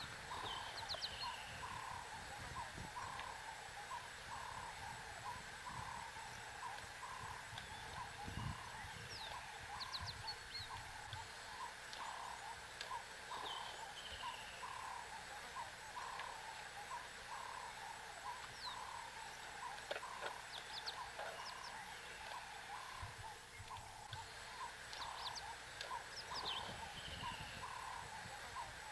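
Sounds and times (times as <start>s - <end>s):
birds calling: 0.0s - 28.9s.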